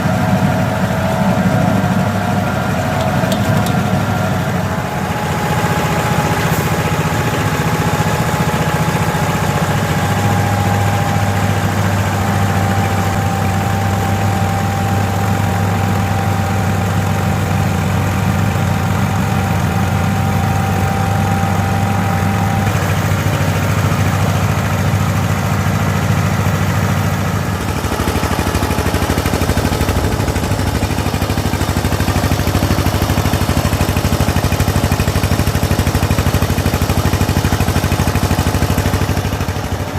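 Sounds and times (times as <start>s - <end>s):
thin steady whine: 0.0s - 35.7s
diesel engine running: 0.0s - 39.9s.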